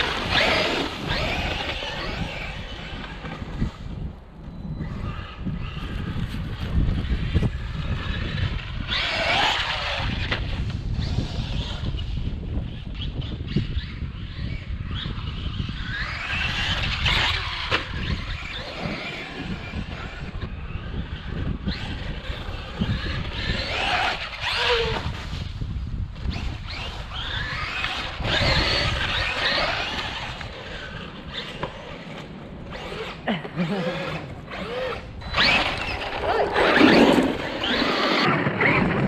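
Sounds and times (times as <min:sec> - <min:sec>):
toy truck electric motor whining: 0:00.0 - 0:04.0, 0:04.8 - 0:38.9.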